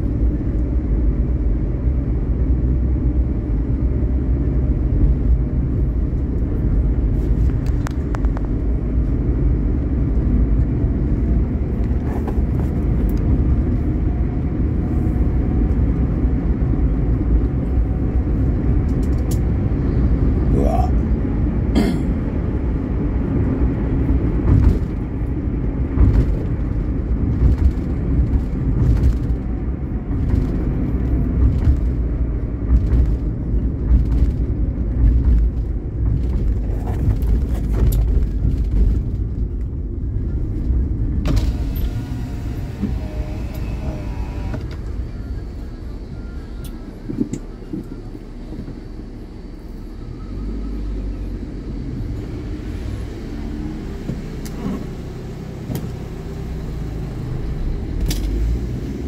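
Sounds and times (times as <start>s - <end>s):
vehicle rumble on road: 0.0s - 59.0s.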